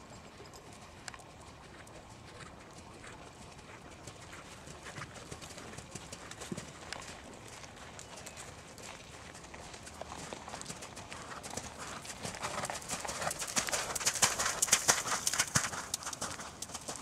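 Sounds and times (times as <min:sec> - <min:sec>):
horse hoofbeats trotting: 0:00.0 - 0:17.0.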